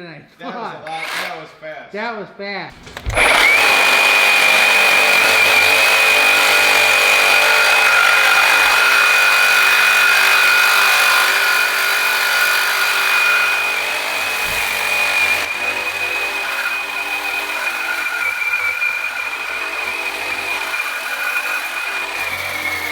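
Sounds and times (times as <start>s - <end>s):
reciprocating saw cutting steel: 0.9s - 1.5s, 2.7s - 22.9s.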